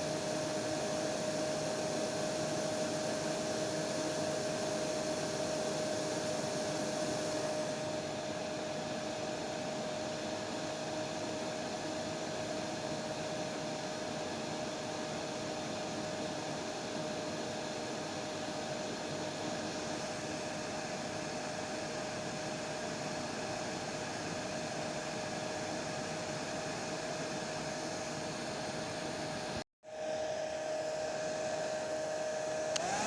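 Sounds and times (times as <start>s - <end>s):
hair dryer running: 0.0s - 33.0s.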